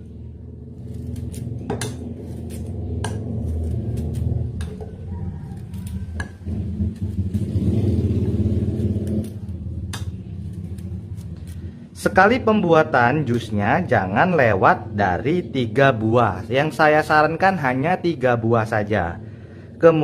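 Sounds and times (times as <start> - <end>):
low rumble: 0.0 - 19.9.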